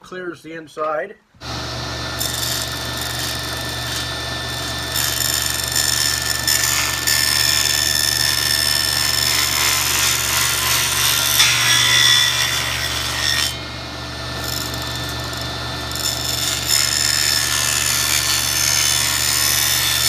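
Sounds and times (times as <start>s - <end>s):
saw blade cutting plastic pipe: 1.4s - 20.0s
table saw motor hum: 1.4s - 20.0s.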